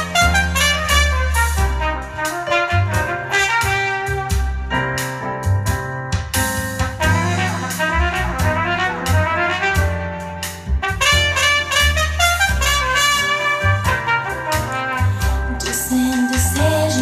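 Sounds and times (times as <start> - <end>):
jazz music through speaker: 0.0 - 17.0.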